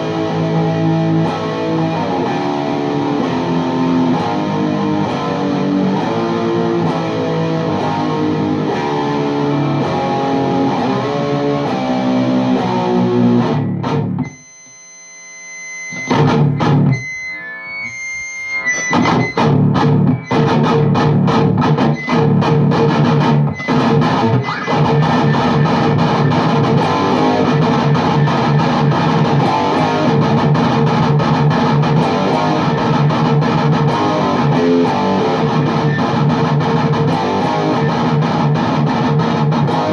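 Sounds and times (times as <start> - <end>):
distorted electric guitar riffing: 0.0 - 14.8, 15.4 - 39.9.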